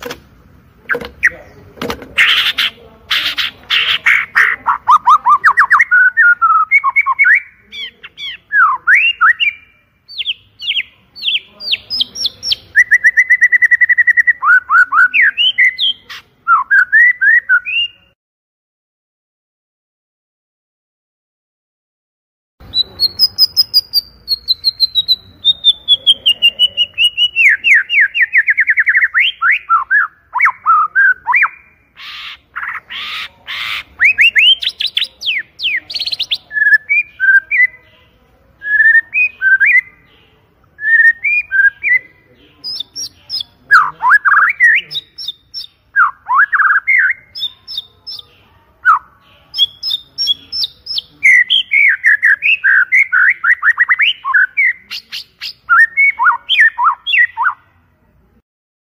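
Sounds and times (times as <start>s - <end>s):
songbird singing: 0.0s - 18.2s, 22.6s - 57.9s.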